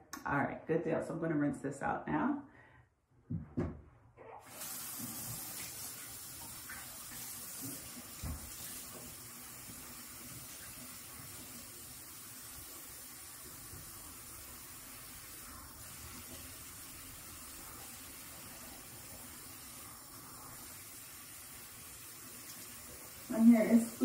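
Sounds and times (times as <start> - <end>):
tap water running: 4.4 - 24.0.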